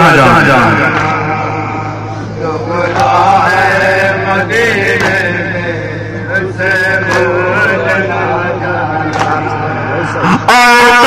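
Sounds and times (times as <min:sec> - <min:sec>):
men chanting a lament: 0:00.0 - 0:11.0
steady low hum: 0:00.0 - 0:11.0.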